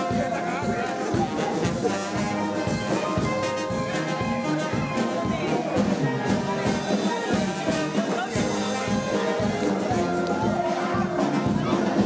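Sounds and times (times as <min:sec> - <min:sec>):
brass band playing dance music: 0:00.0 - 0:12.0.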